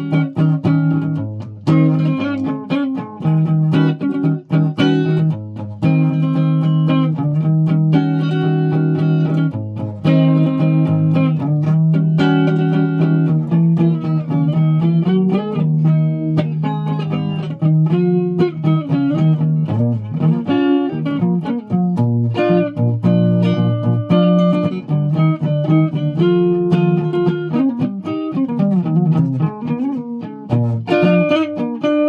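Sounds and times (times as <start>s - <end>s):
guitar notes ringing: 0.0s - 32.0s.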